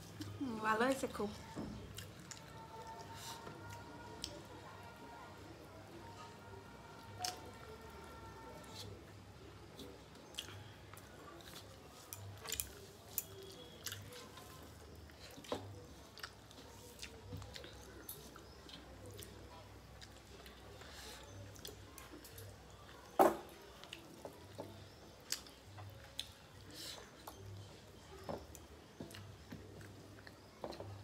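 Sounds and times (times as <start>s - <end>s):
chewing and wet eating sounds: 0.0s - 31.0s.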